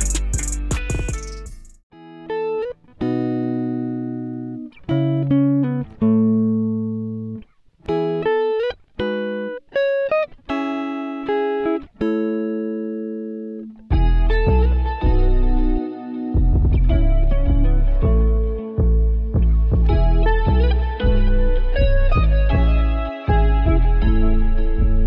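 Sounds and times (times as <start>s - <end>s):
slow instrumental melody: 0.0s - 25.0s.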